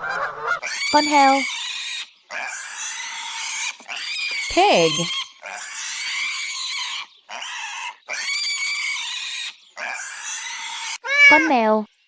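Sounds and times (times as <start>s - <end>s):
pig squealing: 0.6s - 11.6s.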